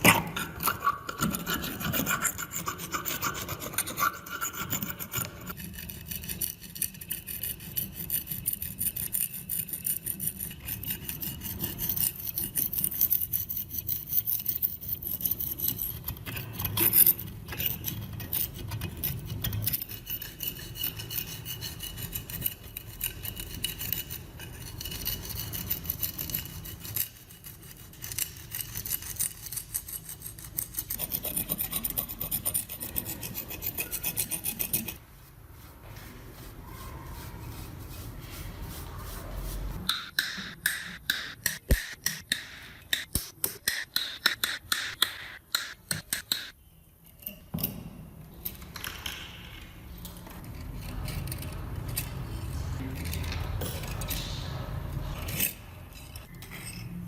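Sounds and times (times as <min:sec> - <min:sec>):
abrasive scrubbing on rusty metal: 0:00.0 - 0:46.5.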